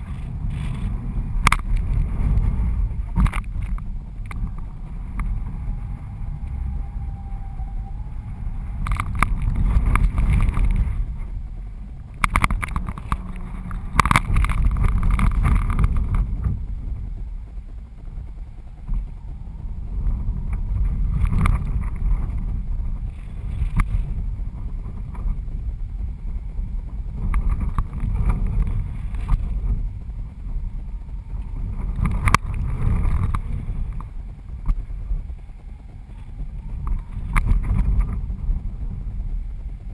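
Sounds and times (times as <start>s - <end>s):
wind buffeting camera: 0.0s - 39.9s.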